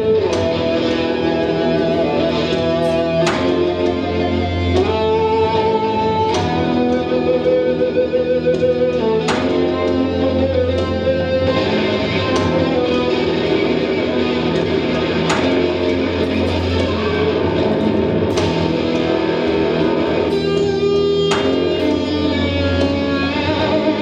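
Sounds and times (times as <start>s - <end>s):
electric guitar plucked notes: 0.0s - 24.0s
steady low drone: 0.0s - 24.0s.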